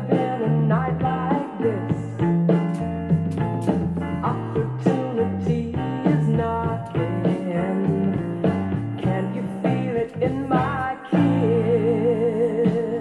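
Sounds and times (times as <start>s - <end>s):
soul song from vinyl record: 0.0s - 13.0s.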